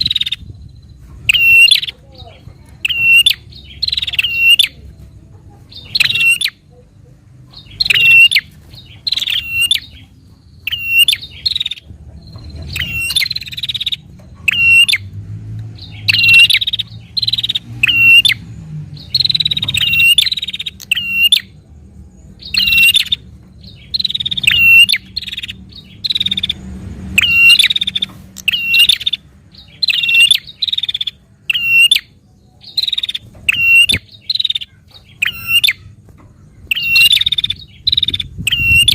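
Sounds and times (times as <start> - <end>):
bird chirping calls: 0.0 - 38.9.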